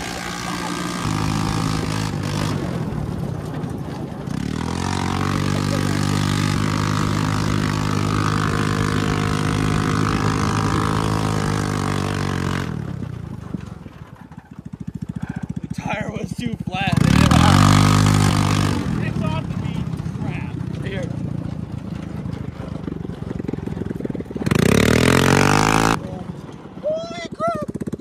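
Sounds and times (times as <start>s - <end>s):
go-kart engine running: 0.0s - 28.0s.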